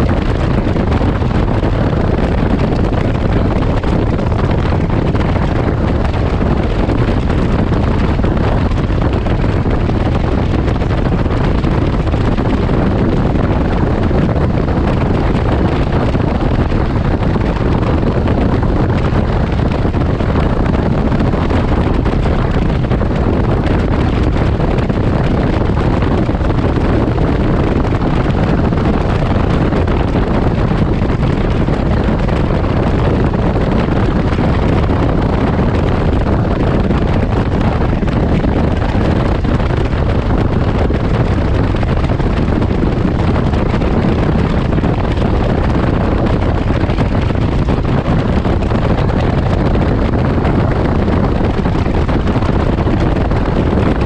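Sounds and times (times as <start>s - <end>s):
motorcycle running: 0.0s - 54.0s
wind buffeting microphone: 0.0s - 54.0s.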